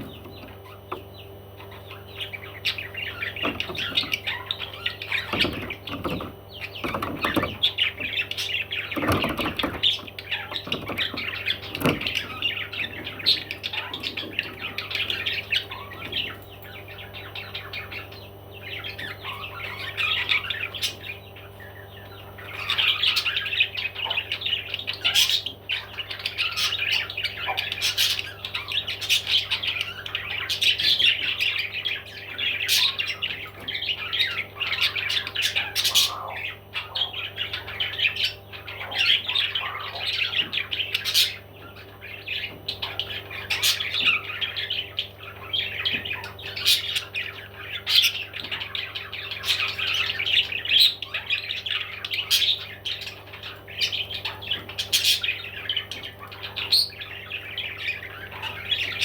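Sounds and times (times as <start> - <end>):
parrot squawking and chirping: 0.0 - 59.0
steady low hum: 0.0 - 59.0.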